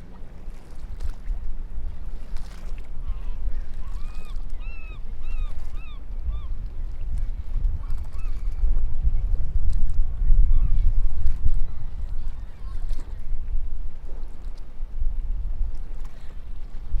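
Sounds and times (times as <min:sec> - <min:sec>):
beach low rumble: 0:00.0 - 0:17.0.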